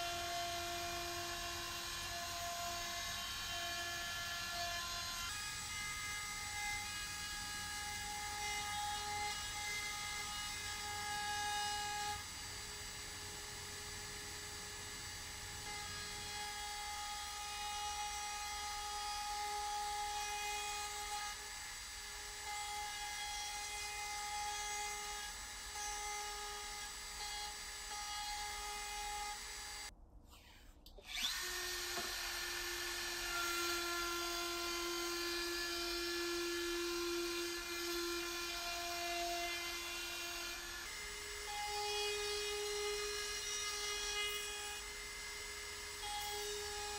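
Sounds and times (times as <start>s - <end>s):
table router high whine: 0.0s - 46.9s.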